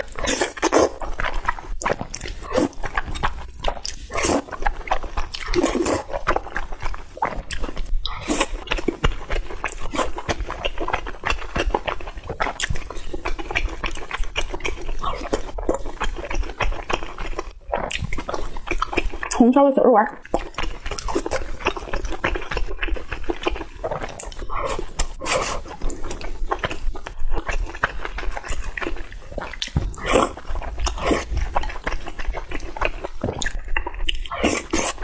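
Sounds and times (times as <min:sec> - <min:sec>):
wet chewing and slurping: 0:00.0 - 0:19.4, 0:20.1 - 0:35.0.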